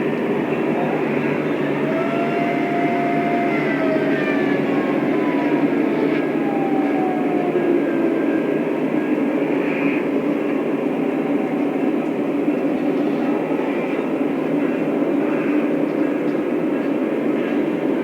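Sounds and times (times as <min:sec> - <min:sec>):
model train running on track: 0:00.0 - 0:07.1, 0:08.3 - 0:18.0.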